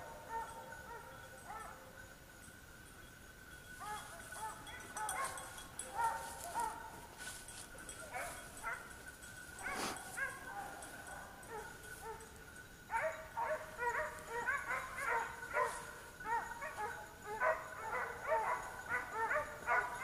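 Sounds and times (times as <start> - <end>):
hounds baying: 0.0 - 2.1, 3.8 - 20.0.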